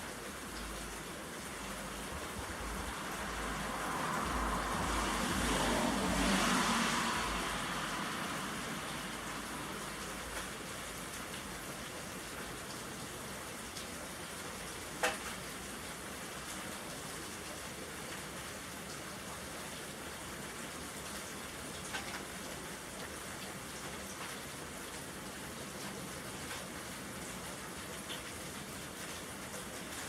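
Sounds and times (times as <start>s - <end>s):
rain pattering on surfaces: 0.0s - 30.0s.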